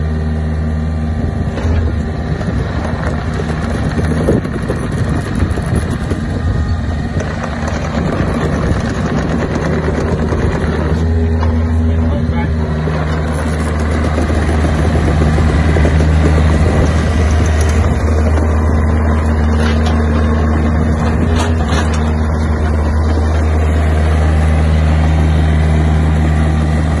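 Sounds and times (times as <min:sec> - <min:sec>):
excavator diesel engine drone: 0:00.0 - 0:27.0.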